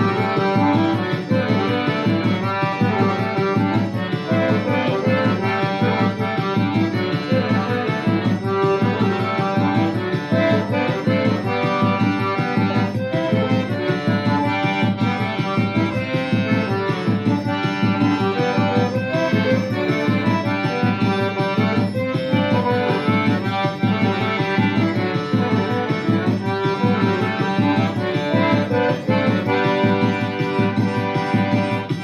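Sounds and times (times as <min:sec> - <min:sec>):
accordion playing folk tune: 0:00.0 - 0:32.0.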